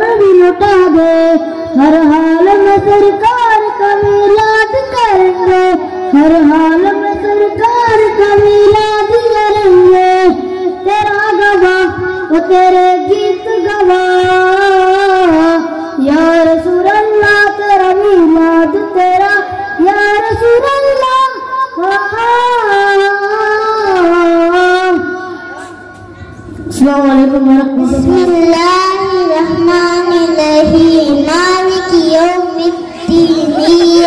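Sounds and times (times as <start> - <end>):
child singing unaccompanied: 0.0 - 25.5, 26.7 - 34.0.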